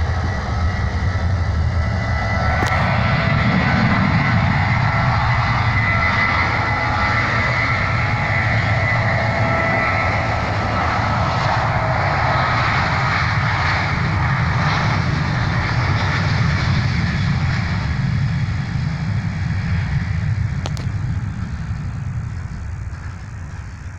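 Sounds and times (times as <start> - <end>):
jet engine roar with whine: 0.0 - 23.9.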